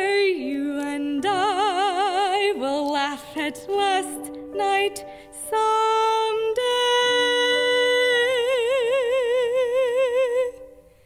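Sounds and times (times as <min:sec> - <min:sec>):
piano accompaniment: 0:00.0 - 0:11.0.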